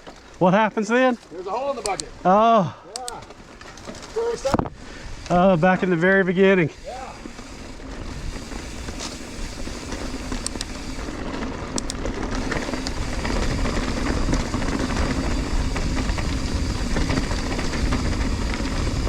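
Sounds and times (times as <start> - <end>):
bike rattling: 0.0 - 19.0
bike tyre rumble: 0.0 - 19.0.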